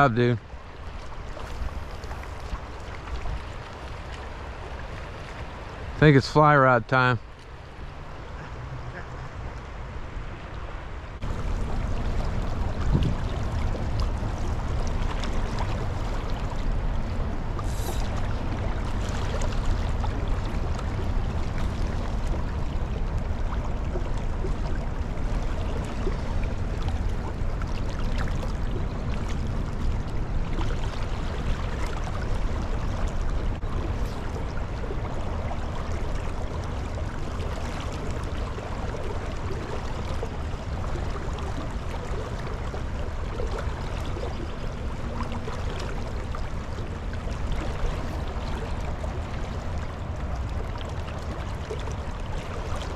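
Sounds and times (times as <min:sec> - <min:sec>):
creek water rushing: 0:00.0 - 0:52.9.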